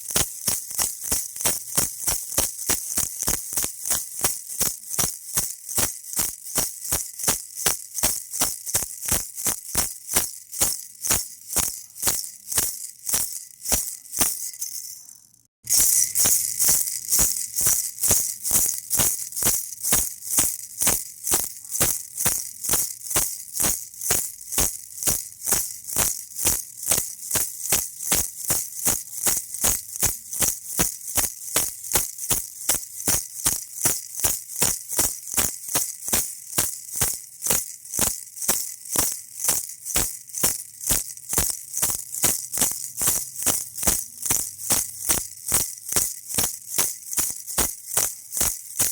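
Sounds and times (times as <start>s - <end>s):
baby rattle shaken: 0.0s - 48.9s.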